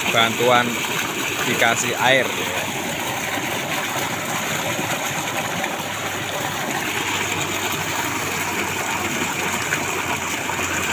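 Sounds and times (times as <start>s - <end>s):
pump humming: 0.0s - 10.9s
water gushing into basin: 0.0s - 10.9s.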